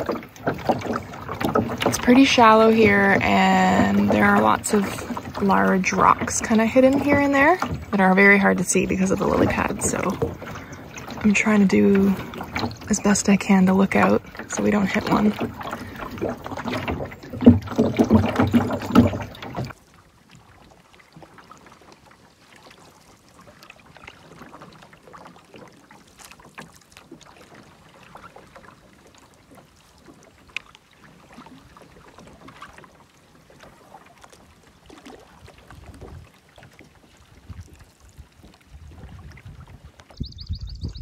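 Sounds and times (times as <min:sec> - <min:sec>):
paddle dips and water splashes: 0:00.0 - 0:41.0.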